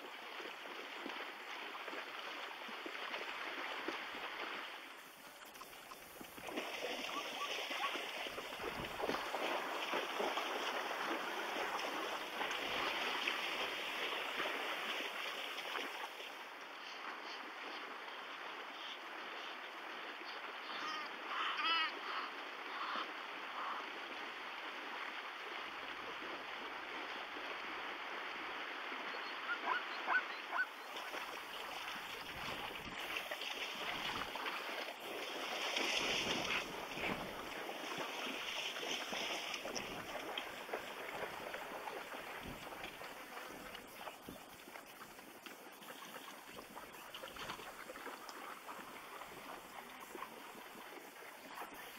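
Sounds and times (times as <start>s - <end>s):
legs splashing through water: 0.0s - 51.9s.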